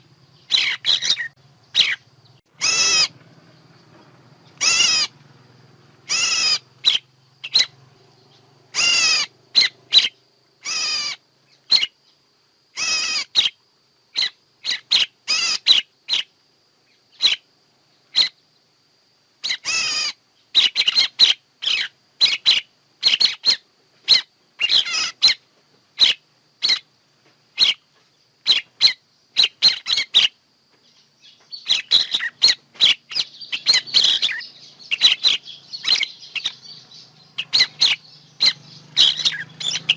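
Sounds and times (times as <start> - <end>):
recorded bird calls: 0.0 - 39.9.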